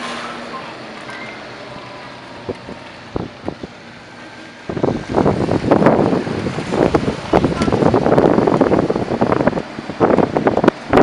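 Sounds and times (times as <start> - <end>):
vehicle rushing through water: 0.0 - 11.0
water splashing: 0.0 - 11.0.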